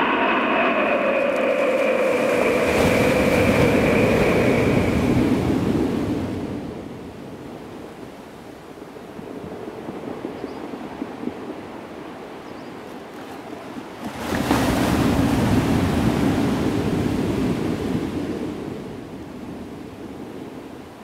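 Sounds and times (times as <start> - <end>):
strong wind buffeting microphone: 0.0 - 12.8, 13.5 - 21.0.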